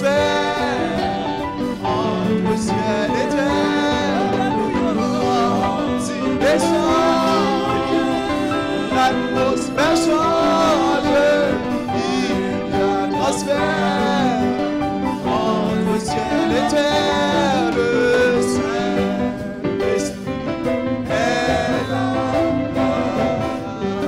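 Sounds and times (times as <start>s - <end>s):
man singing a hymn: 0.0s - 24.0s
sustained chords: 0.0s - 24.0s.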